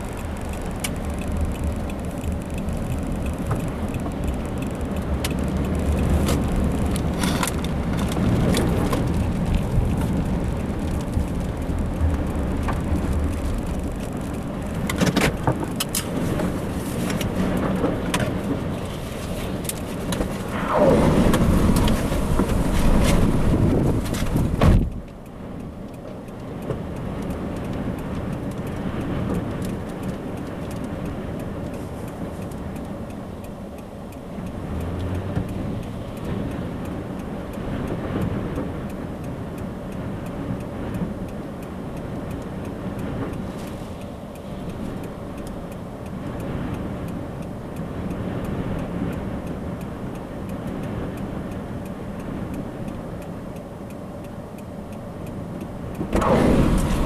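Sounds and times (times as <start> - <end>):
car noise: 0.0 - 57.0.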